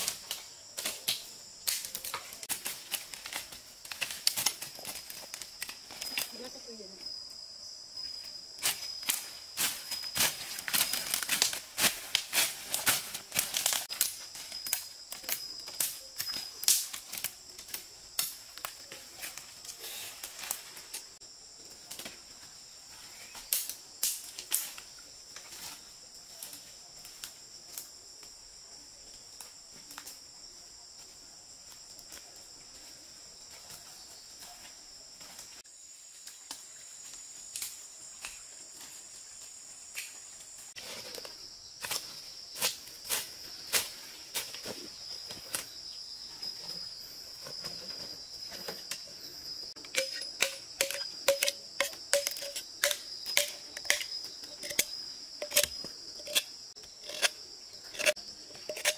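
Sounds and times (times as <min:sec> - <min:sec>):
leaves and twigs crackling underfoot: 0:00.0 - 0:58.9.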